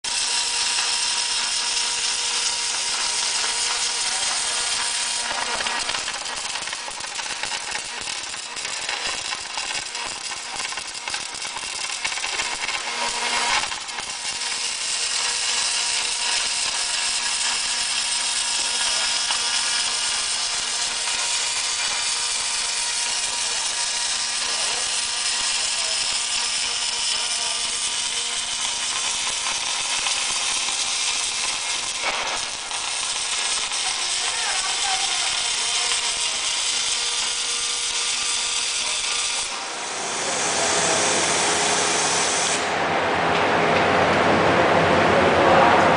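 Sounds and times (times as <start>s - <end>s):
welding machine hissing and humming: 0.0s - 42.9s.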